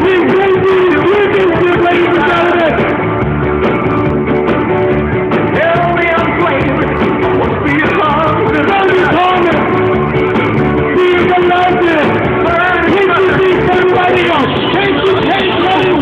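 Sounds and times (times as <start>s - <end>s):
rock music with singer: 0.0s - 16.0s.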